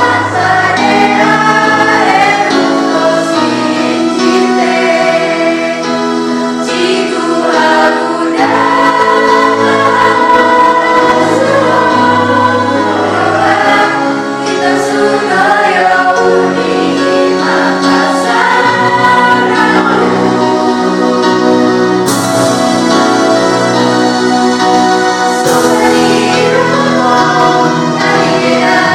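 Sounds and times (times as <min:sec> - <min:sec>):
vocal group singing in unison: 0:00.0 - 0:28.9.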